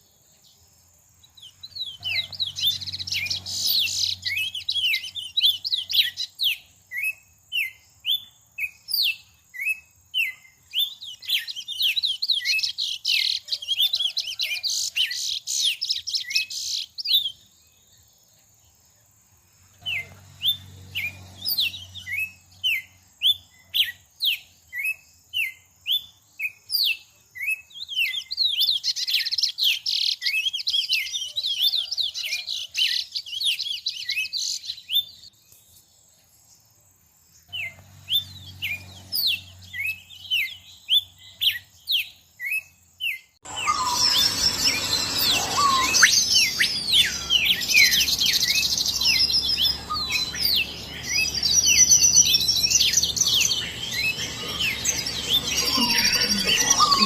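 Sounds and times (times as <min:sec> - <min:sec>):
songbird chirping and twittering: 0:00.0 - 0:57.0.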